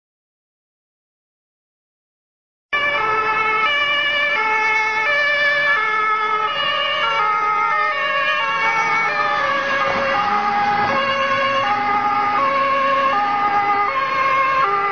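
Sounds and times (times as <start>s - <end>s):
police two-tone siren: 2.8s - 14.9s.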